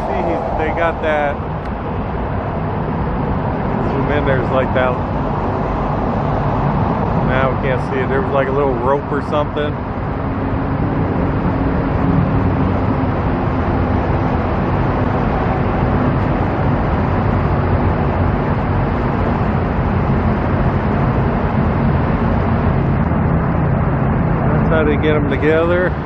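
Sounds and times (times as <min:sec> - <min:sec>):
low engine hum: 0:00.0 - 0:26.0
vehicles running past: 0:00.0 - 0:26.0.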